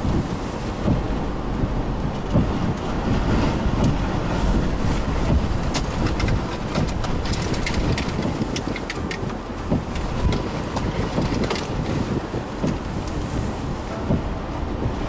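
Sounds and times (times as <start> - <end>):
strong wind gusting on microphone: 0.0 - 15.0.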